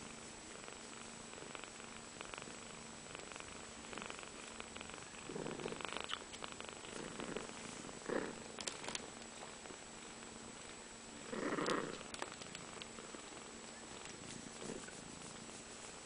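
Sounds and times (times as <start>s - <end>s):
cats purring: 0.0s - 16.0s.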